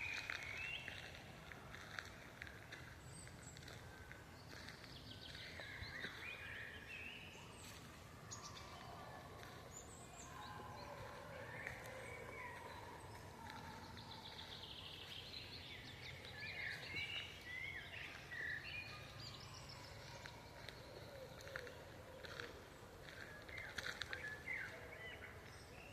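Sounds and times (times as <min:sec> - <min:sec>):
birds chirping and warbling: 0:00.0 - 0:25.9.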